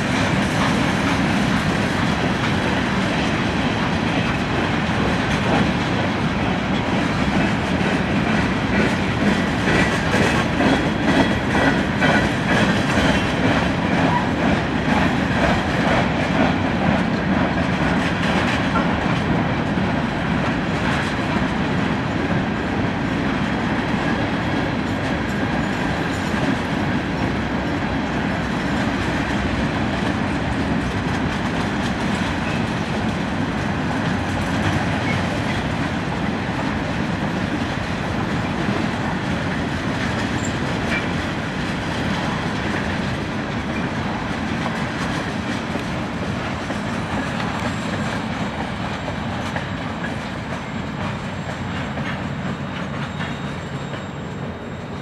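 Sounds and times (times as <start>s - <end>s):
freight train wheels rumbling and rattling: 0.0s - 55.0s.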